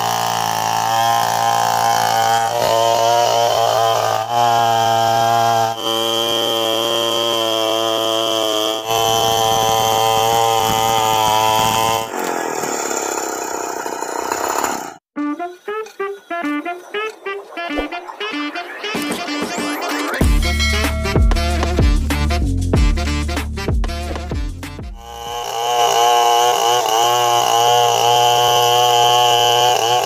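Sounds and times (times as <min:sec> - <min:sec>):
chainsaw cutting through log: 0:00.0 - 0:15.0, 0:18.9 - 0:30.0.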